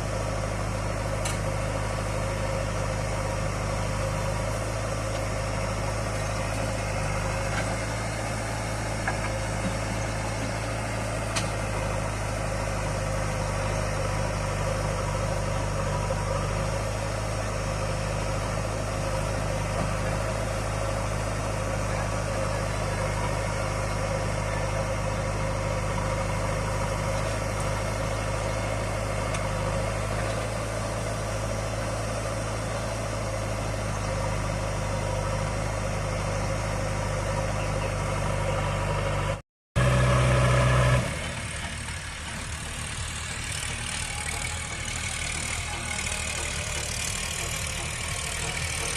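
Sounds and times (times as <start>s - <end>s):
heavy diesel engine idling: 0.0s - 48.9s.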